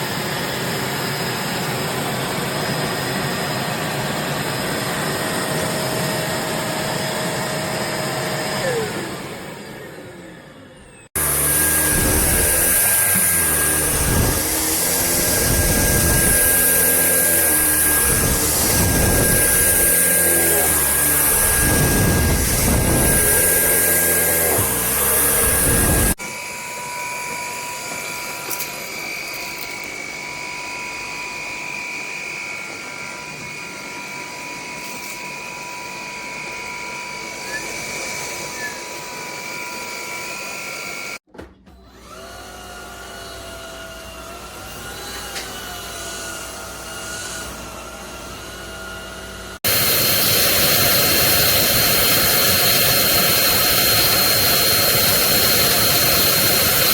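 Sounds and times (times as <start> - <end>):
stick vacuum running: 0.0 - 56.9.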